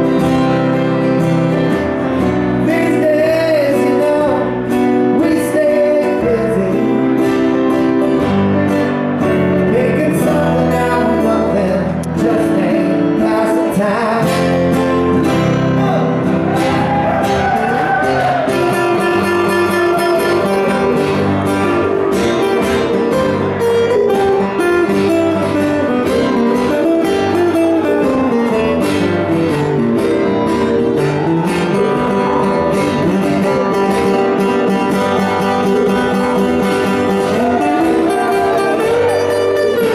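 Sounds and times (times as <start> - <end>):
acoustic guitars strumming: 0.0 - 39.9
sliding lead melody: 0.0 - 39.9.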